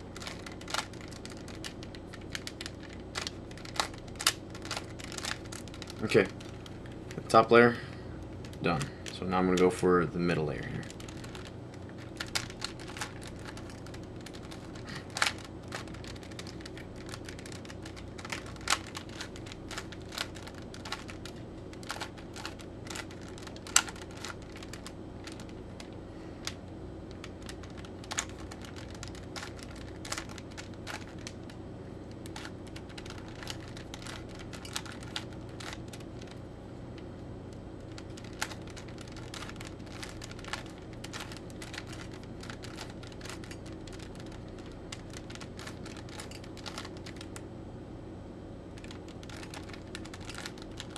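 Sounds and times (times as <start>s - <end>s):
steady low hum: 0.0s - 50.9s
plastic puzzle cube clicking: 0.2s - 6.8s, 10.9s - 25.5s, 26.4s - 31.4s, 32.2s - 36.0s, 37.9s - 47.3s, 48.8s - 50.9s.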